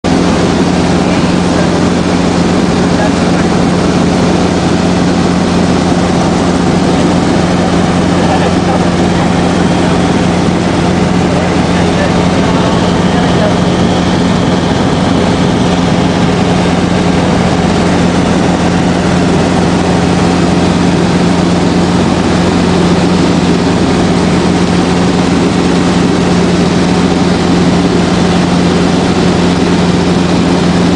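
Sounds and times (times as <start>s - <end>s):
helicopter engine and rotor drone: 0.0s - 30.9s.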